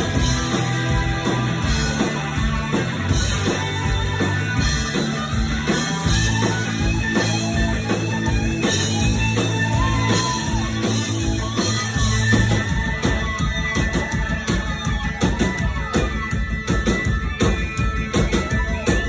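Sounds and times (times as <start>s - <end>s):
bass guitar: 0.0s - 19.0s
drum beat: 0.0s - 19.0s
electric guitars: 0.0s - 19.0s.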